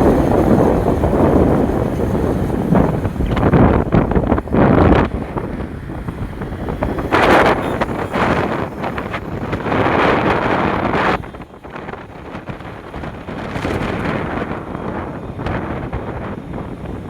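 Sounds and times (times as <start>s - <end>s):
motorcycle running: 0.0s - 17.0s
road noise: 0.0s - 17.0s
wind buffeting microphone: 0.0s - 17.0s.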